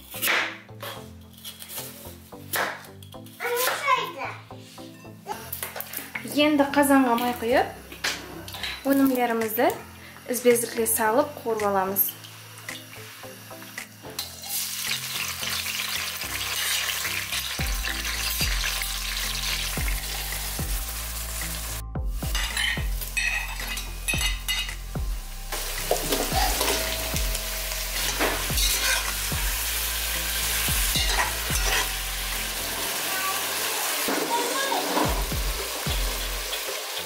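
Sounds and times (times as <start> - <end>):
vegetables sizzling in oil: 5.8 - 8.0, 8.6 - 24.7, 25.5 - 37.0.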